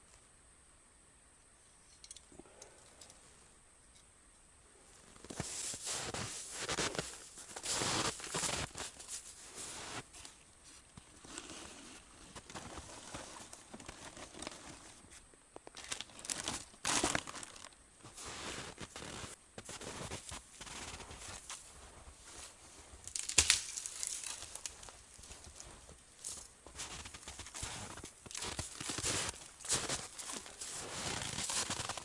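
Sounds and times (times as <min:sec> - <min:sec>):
rustling and crinkling handling noise: 0:04.9 - 0:32.0.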